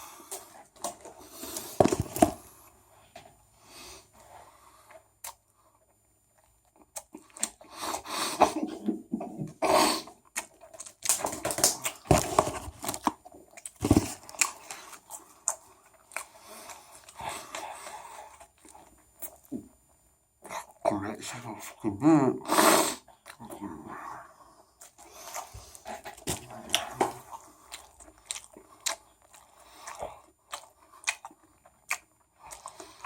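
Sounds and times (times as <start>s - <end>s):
person chewing food: 0.0s - 2.8s, 4.2s - 19.7s, 23.0s - 23.8s, 24.7s - 33.0s.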